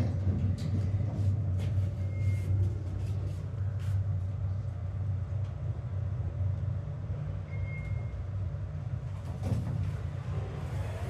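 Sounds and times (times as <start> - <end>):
low rumble inside lift car: 0.0 - 11.0.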